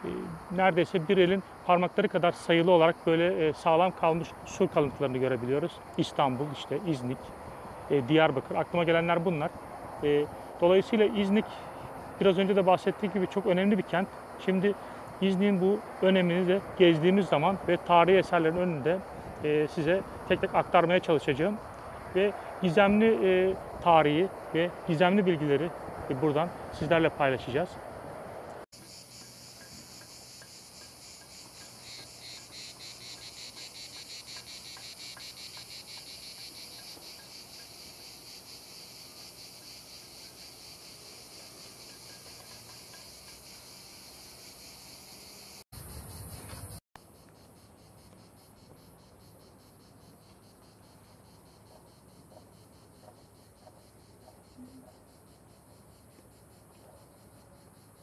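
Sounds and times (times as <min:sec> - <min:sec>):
insects buzzing in trees: 0:00.0 - 0:58.0.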